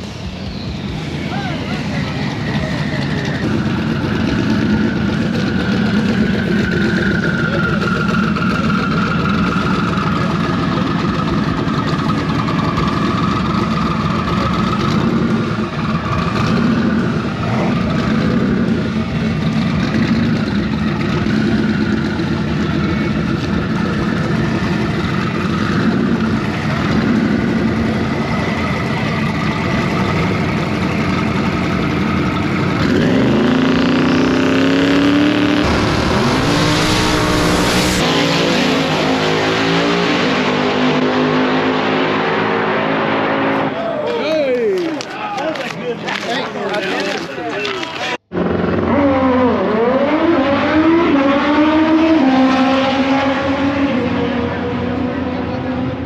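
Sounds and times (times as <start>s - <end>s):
race car engine revving: 0.0s - 43.8s, 48.2s - 56.0s.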